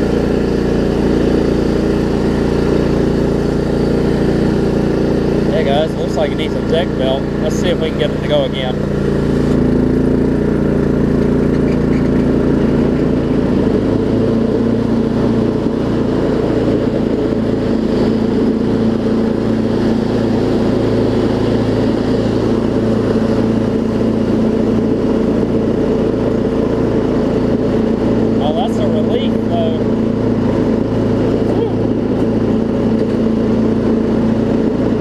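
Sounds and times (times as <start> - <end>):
riding mower engine running: 0.0 - 35.0.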